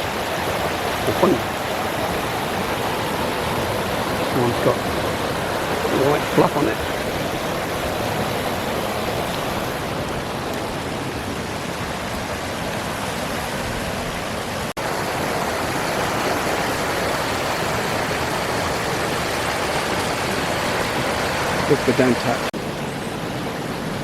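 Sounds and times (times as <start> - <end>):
fast-flowing stream: 0.0 - 24.0.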